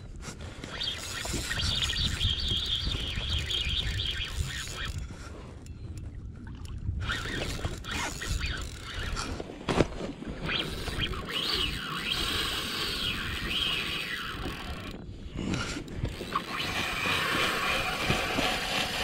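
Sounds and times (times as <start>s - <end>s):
fishing reel whirring: 0.5s - 5.7s, 7.0s - 9.4s, 10.4s - 19.0s.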